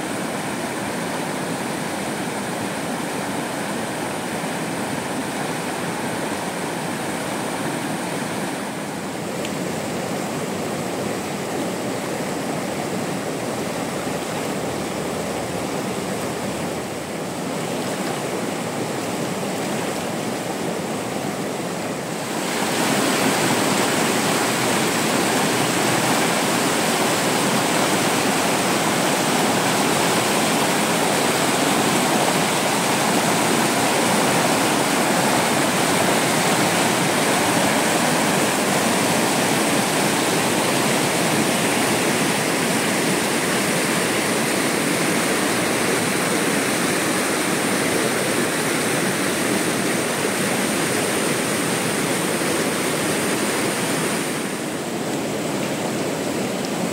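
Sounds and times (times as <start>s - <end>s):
rushing water: 0.0s - 56.9s.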